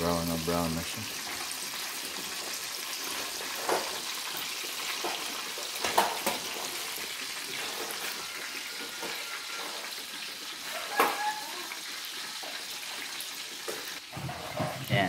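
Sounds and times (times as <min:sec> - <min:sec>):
cutlets deep-frying in oil: 0:00.0 - 0:15.0.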